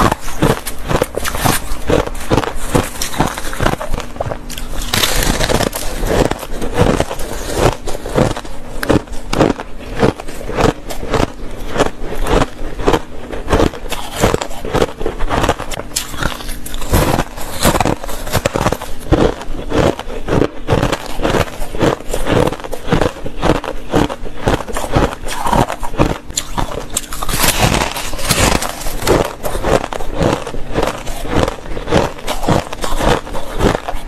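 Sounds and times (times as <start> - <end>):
chewing crushed ice: 0.0 - 34.0.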